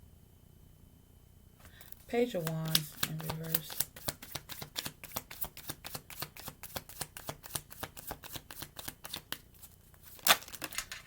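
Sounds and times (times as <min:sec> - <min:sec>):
cards being shuffled: 0:01.6 - 0:11.0.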